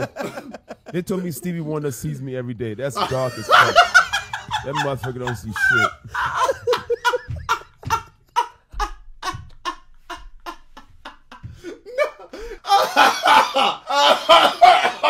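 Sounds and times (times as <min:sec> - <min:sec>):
man laughing hard: 0:00.0 - 0:01.4, 0:03.0 - 0:15.0.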